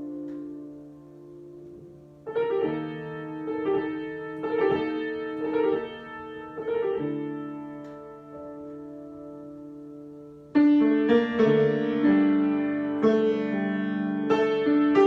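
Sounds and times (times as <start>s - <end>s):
piano chords ringing out: 0.0s - 15.0s.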